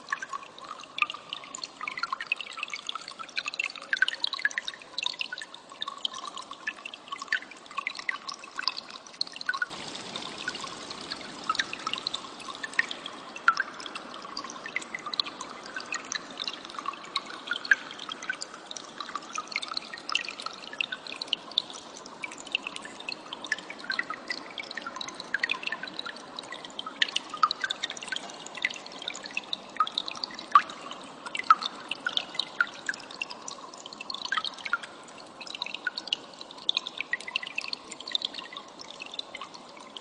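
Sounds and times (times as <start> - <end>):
stream water running: 0.0 - 40.0.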